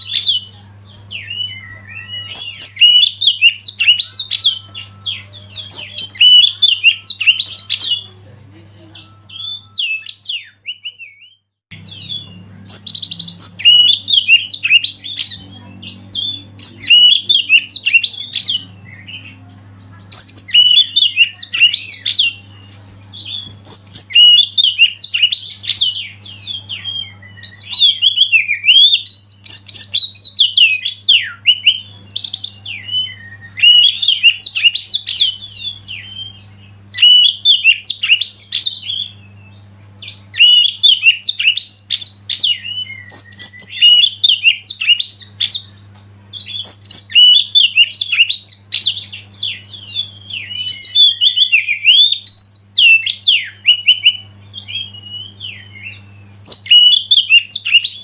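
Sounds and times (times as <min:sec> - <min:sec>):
faint low hum: 0:00.0 - 0:58.0
songbird singing: 0:00.0 - 0:58.0.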